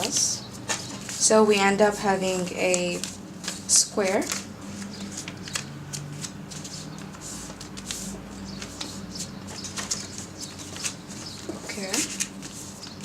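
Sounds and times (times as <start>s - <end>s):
paper crackling: 0.0s - 13.0s
paper rustling while folded: 0.0s - 13.0s.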